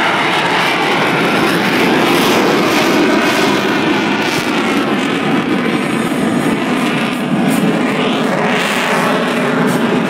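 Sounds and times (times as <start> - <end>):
jet engines flying overhead: 0.0 - 10.0.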